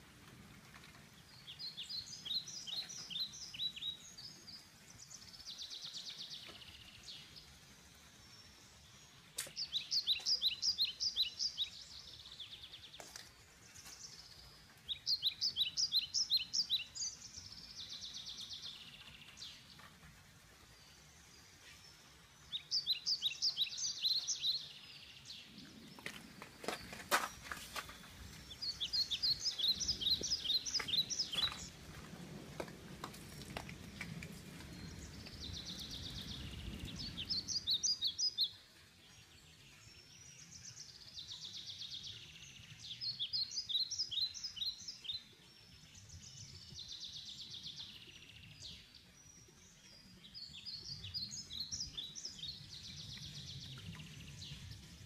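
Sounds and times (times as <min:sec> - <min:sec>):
jungle ambience: 0:00.0 - 0:55.0
songbird singing: 0:00.0 - 0:55.0.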